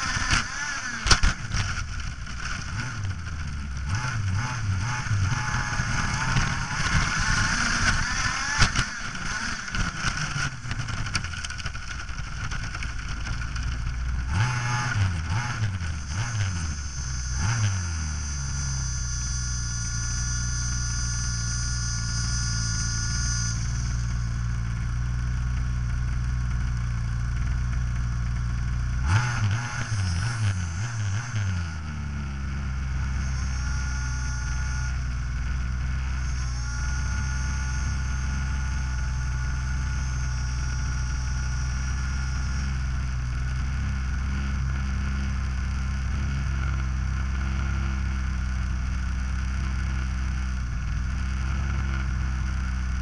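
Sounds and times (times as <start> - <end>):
radio-controlled car engine revving: 0.0 - 53.0.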